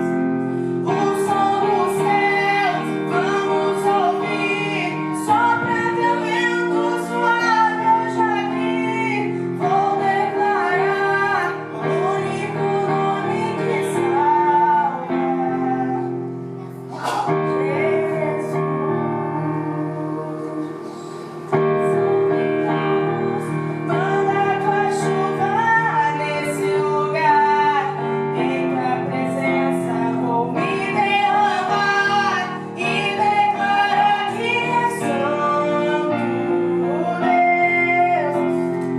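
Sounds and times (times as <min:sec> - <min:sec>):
piano accompaniment: 0:00.0 - 0:38.9
woman singing gospel: 0:00.8 - 0:16.3, 0:17.0 - 0:38.9.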